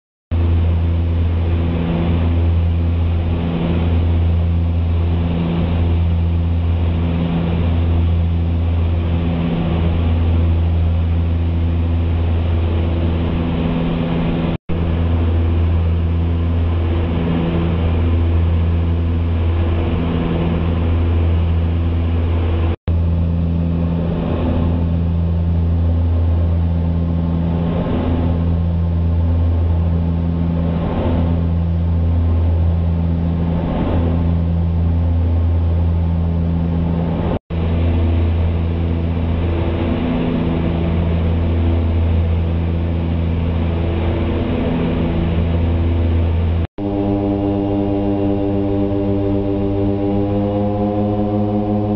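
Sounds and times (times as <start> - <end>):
propeller and engine drone: 0.3 - 51.9.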